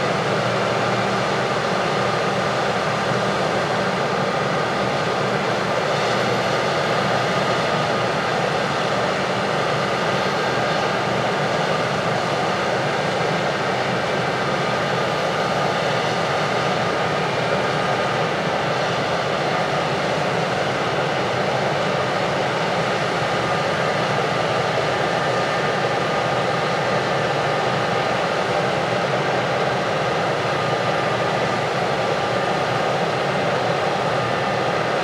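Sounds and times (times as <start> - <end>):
farm machinery engine drone: 0.0 - 35.0.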